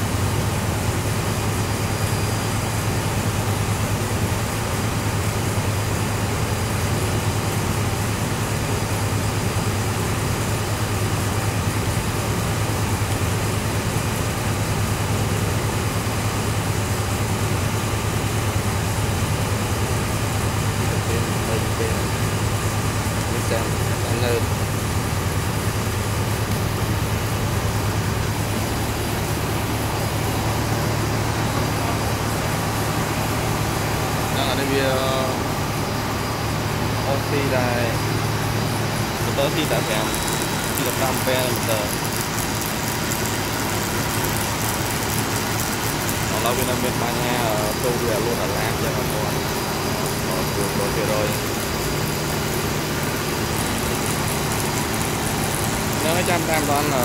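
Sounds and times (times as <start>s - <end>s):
machine running with low hum: 0.0s - 57.0s.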